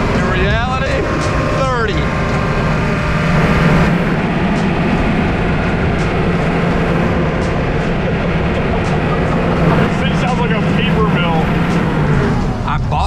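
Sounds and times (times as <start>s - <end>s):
vehicle engine drone from inside cab: 0.0s - 13.0s.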